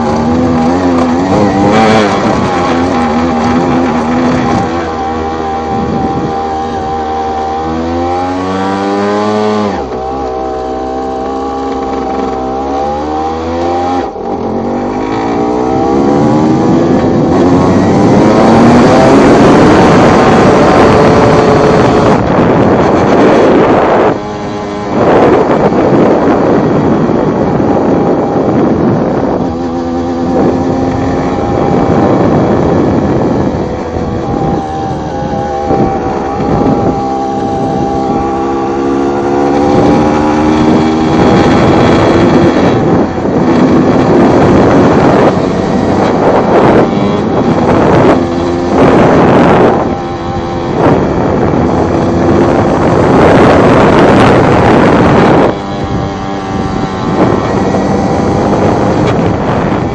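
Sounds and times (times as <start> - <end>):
two-stroke motorcycle engine revving: 0.0 - 59.9
wind buffeting microphone: 0.0 - 59.9.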